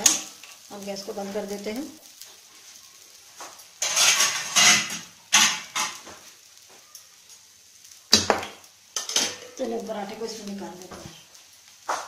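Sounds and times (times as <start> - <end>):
ghee sizzling on a hot griddle: 0.0 - 12.0.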